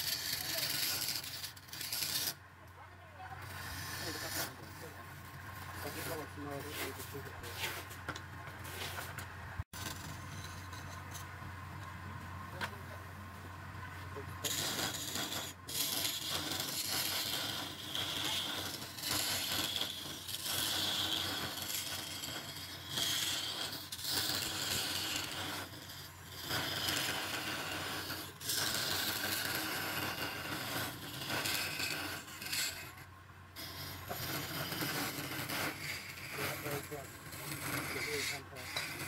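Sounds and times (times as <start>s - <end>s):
scraper cutting wood on lathe: 0.0s - 2.4s, 3.3s - 7.8s, 14.4s - 39.0s.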